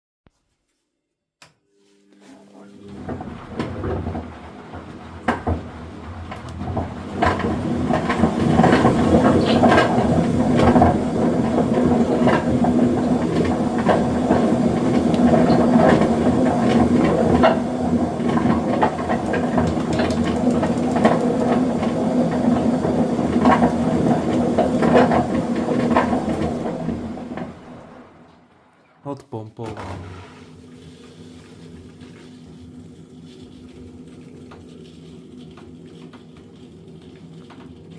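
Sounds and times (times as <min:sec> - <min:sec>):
washing machine motor hum: 0:01.5 - 0:28.7, 0:29.6 - 0:37.9.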